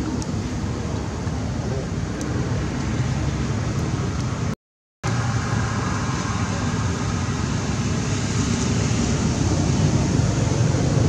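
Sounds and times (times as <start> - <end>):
rumbling hissing background noise: 0.0 - 11.0.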